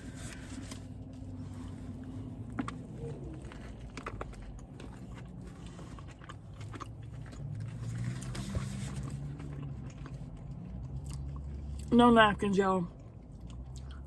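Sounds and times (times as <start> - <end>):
crunchy chewing: 0.0 - 11.9
low steady hum: 0.0 - 14.0.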